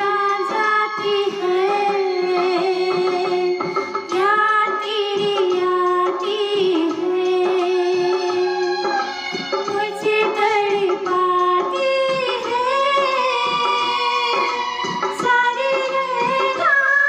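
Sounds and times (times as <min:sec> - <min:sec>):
recorded backing music: 0:00.0 - 0:17.0
woman singing into microphone: 0:00.0 - 0:17.0.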